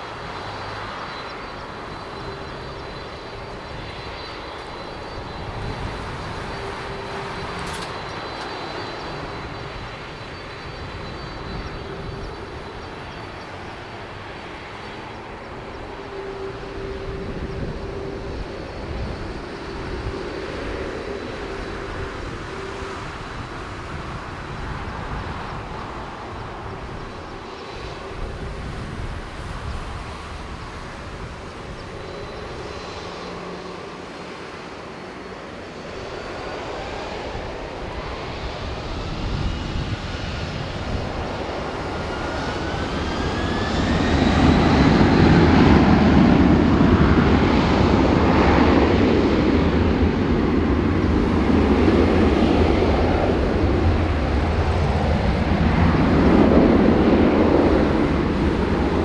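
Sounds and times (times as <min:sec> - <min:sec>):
jet engines spooling up: 0:00.0 - 0:59.0
loud jet noise: 0:00.0 - 0:59.0.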